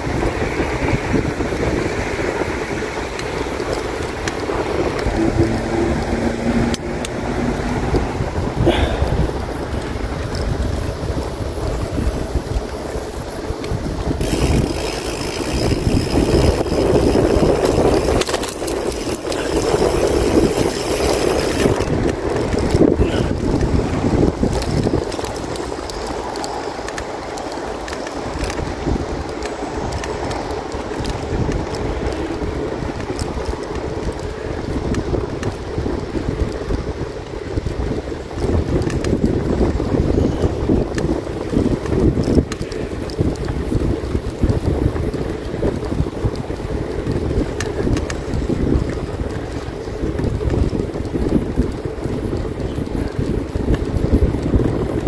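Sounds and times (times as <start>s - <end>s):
steady rumble: 0.0s - 55.0s
wind buffeting microphone: 0.0s - 55.0s.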